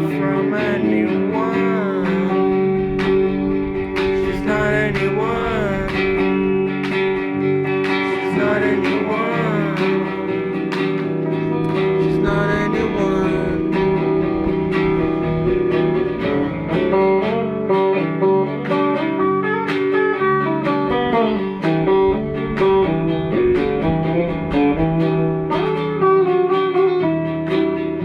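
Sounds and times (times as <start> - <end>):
picked guitar melody: 0.0 - 28.0.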